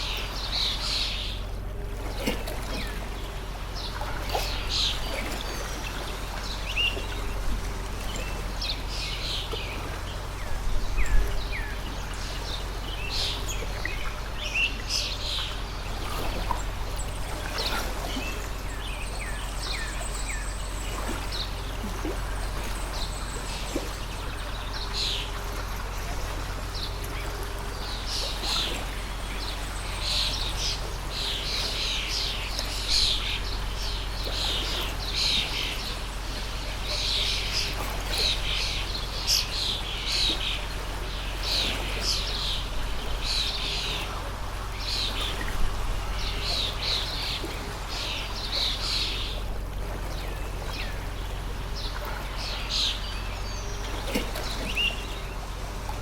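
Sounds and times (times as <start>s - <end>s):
small birds chirping: 0.0s - 49.5s, 50.1s - 56.0s
flowing stream: 0.0s - 56.0s.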